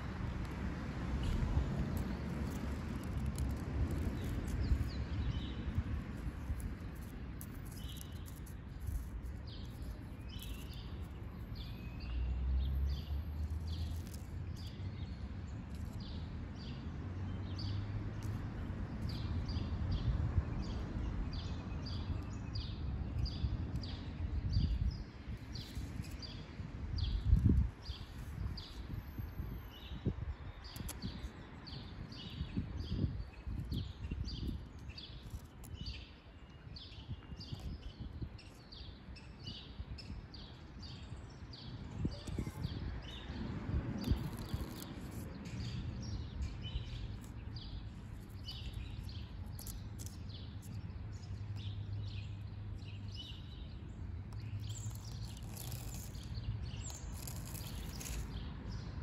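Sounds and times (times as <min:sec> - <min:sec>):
small bird chirping: 0:02.0 - 0:16.8, 0:21.4 - 0:59.0.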